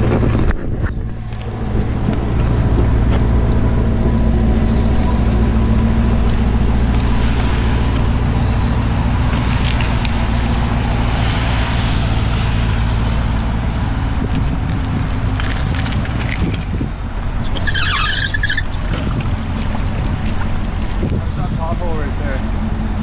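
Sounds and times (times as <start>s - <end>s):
car engine hum: 0.0s - 23.0s
tyre and wind noise: 0.0s - 23.0s.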